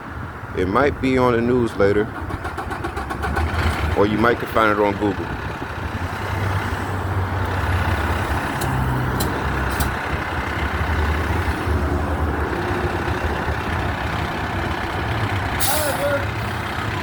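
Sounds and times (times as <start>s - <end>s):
diesel truck engine idling: 1.9s - 17.0s.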